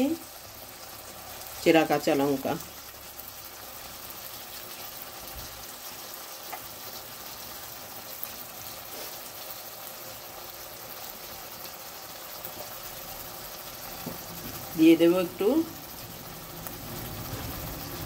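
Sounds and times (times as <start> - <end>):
curry sizzling and bubbling in oil: 0.0 - 18.0.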